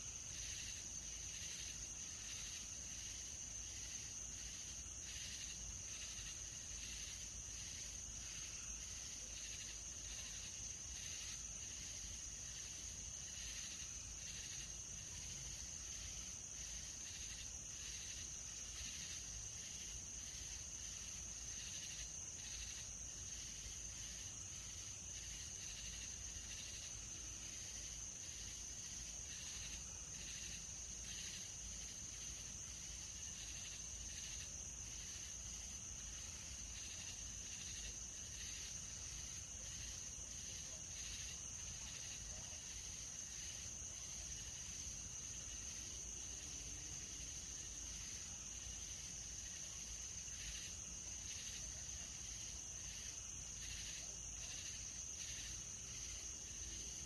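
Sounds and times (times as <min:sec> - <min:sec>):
crickets trilling: 0:00.0 - 0:57.0
insect chirping in pulses: 0:00.0 - 0:57.0.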